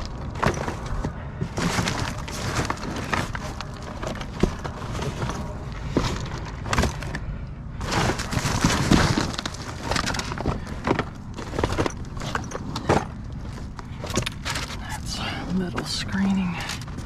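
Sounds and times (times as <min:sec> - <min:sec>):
scrap debris clattering: 0:00.0 - 0:14.9
scraping and crunching: 0:00.0 - 0:17.0.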